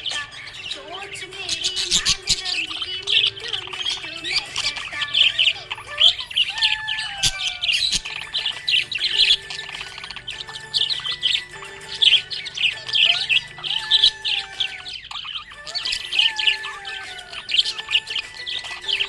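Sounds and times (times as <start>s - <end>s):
parrots chirping and chattering: 0.0s - 19.0s.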